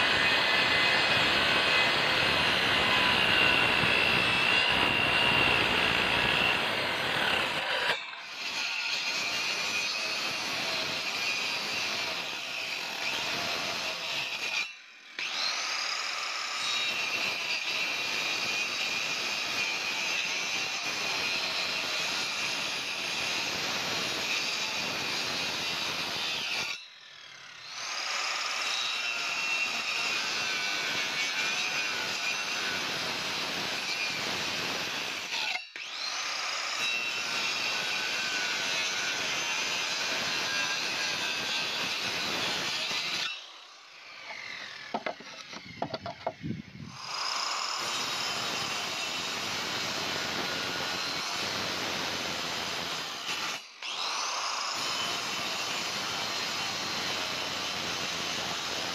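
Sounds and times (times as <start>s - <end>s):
circular saw cutting timber: 0.0s - 58.9s.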